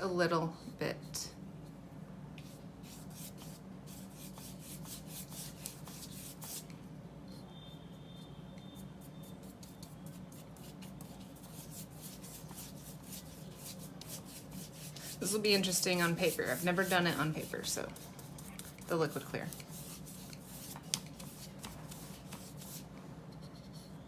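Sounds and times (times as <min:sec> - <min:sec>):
paintbrush scratching on paper: 0:02.4 - 0:06.7, 0:09.0 - 0:24.0.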